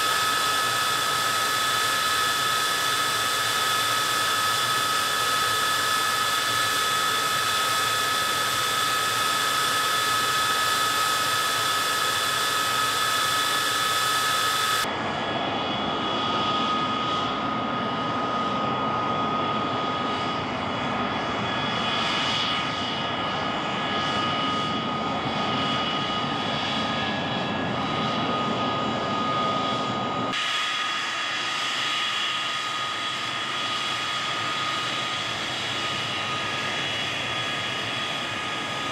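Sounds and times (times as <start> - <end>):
high turbine whine: 0.0 - 38.9
jet engine running: 0.0 - 38.9.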